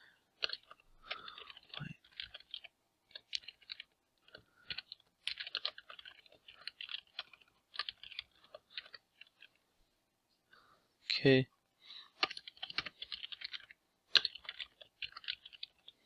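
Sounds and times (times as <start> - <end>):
computer keyboard typing: 0.4 - 9.6, 12.2 - 16.0.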